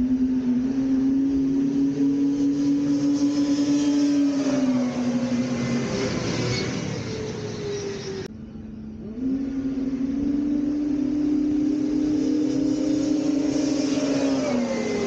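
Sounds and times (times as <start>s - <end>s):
snowmobile engine drone: 0.0s - 15.0s.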